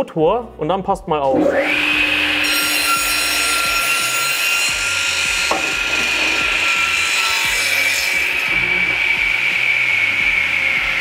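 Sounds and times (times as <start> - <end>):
crosscut saw blade whine: 1.4 - 11.0
saw cutting through board: 1.4 - 11.0.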